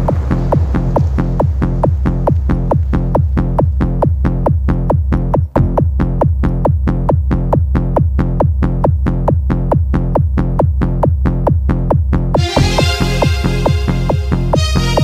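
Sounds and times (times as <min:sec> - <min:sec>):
electronic music with deep bass: 0:00.0 - 0:15.0.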